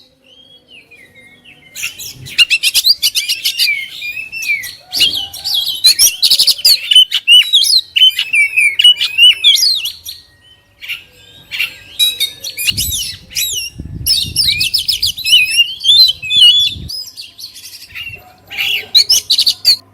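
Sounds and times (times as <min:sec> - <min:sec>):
bird singing whistles and trills: 0:00.0 - 0:19.8.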